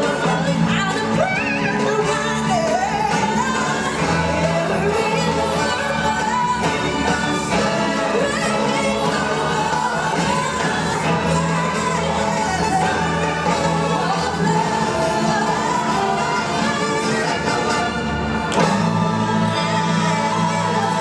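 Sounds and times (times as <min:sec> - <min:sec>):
group of singers with band: 0:00.0 - 0:21.0.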